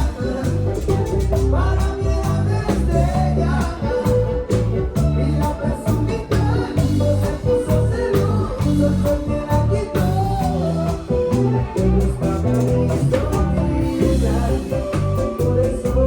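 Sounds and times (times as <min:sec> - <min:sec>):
bass line: 0:00.0 - 0:16.0
guitar: 0:00.0 - 0:16.0
music with steady beat: 0:00.0 - 0:16.0
person singing: 0:00.0 - 0:16.0.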